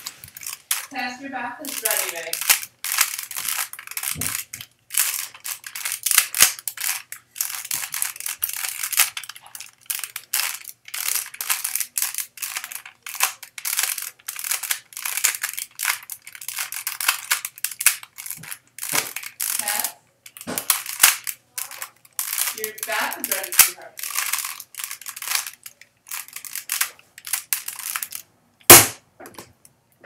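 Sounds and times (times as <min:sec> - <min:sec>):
puzzle cube clacking: 0:01.6 - 0:29.7.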